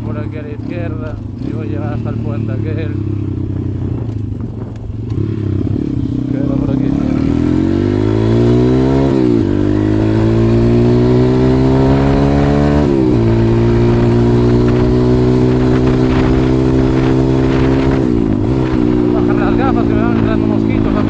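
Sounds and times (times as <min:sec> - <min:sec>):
motorbike engine accelerating: 0:00.0 - 0:21.0.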